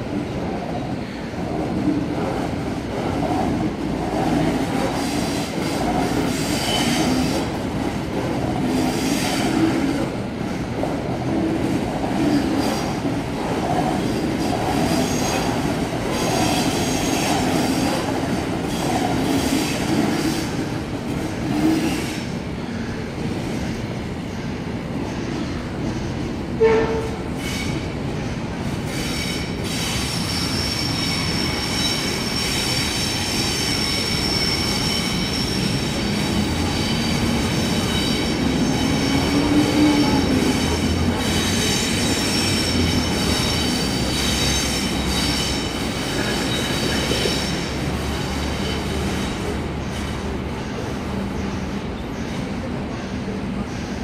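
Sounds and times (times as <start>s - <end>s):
train rumbling past: 0.0s - 54.0s
high train wheel squeal: 0.7s - 10.6s, 11.3s - 54.0s.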